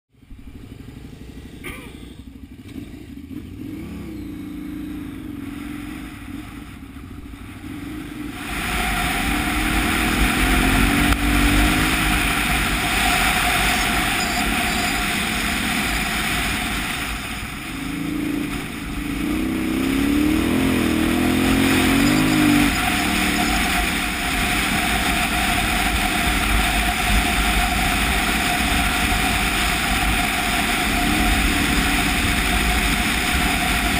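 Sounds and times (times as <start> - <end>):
motorcycle engine revving: 0.2 - 33.9
wind rushing over microphone: 5.8 - 33.9.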